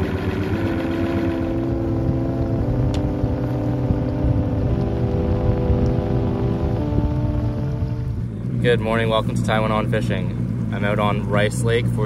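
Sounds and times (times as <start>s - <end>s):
outboard motor humming: 0.0s - 12.0s
wind rumbling on microphone: 0.0s - 12.0s.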